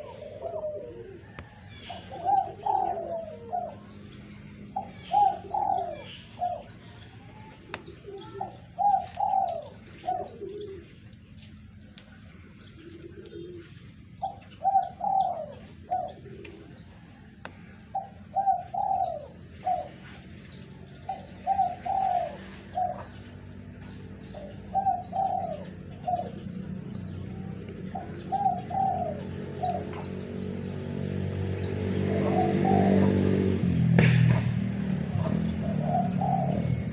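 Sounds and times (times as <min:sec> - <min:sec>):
dove cooing: 0:00.0 - 0:11.1, 0:11.7 - 0:30.2, 0:31.8 - 0:33.6, 0:35.0 - 0:36.9.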